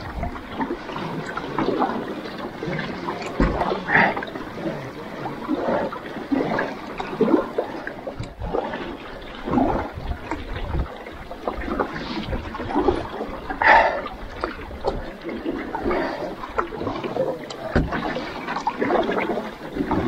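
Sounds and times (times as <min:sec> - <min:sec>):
paddle strokes splashing water: 0:00.0 - 0:20.0.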